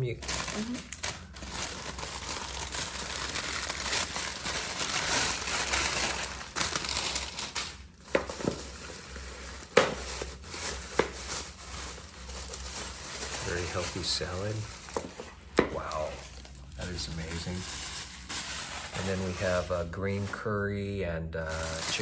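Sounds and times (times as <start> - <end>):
plastic packaging crinkling: 0.0 - 20.4, 21.4 - 22.0.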